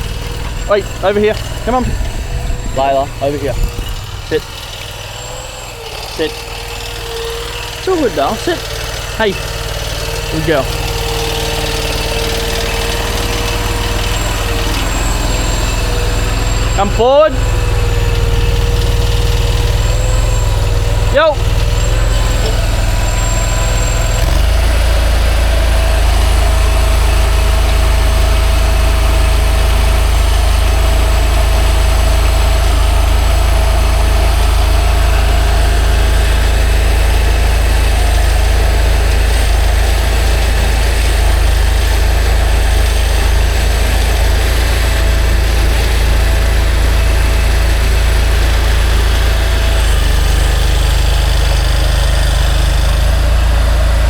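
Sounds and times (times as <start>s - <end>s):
mini loader engine revving: 0.0s - 54.0s.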